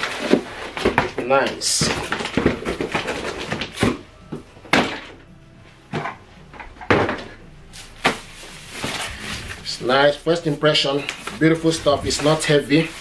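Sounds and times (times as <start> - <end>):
wrapping rustling and scraping: 0.0 - 4.2, 6.0 - 13.0.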